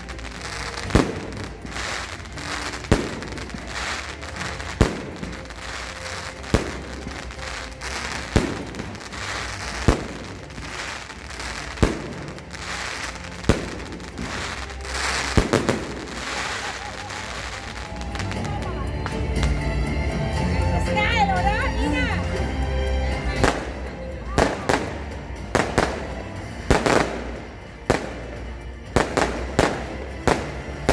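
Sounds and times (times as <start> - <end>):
firework bangs: 0.0 - 18.6, 23.4 - 30.9
firework crackling: 0.0 - 19.7, 22.2 - 30.9.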